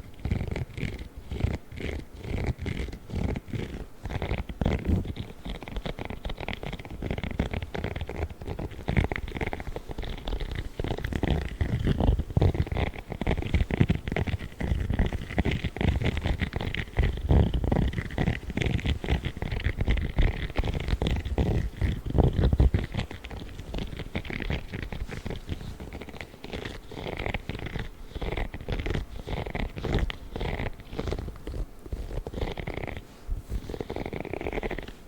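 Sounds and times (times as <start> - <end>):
gloves rubbing and scratching: 0.0 - 35.0.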